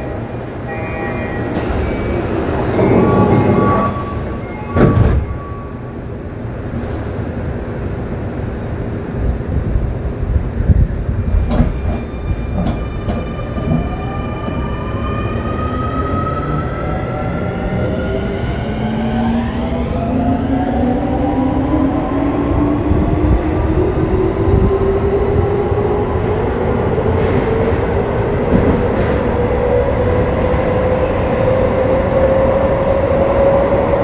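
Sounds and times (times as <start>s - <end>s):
train wheels rumbling on rails: 6.4s - 34.0s.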